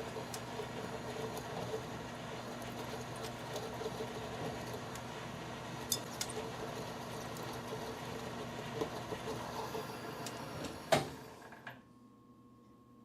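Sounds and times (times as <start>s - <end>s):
metal lathe running: 0.0s - 11.4s.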